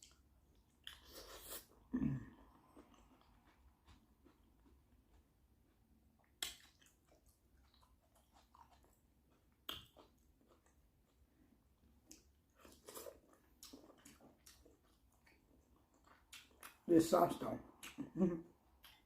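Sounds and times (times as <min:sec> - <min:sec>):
person chewing softly: 0:00.0 - 0:16.9, 0:17.5 - 0:19.0.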